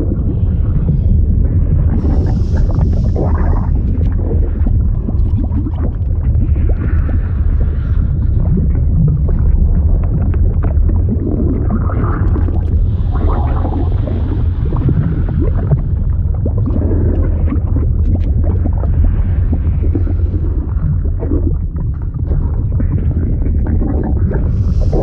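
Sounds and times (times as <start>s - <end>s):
gurgling pops: 0.0s - 25.0s
liquid churning rumble: 0.0s - 25.0s.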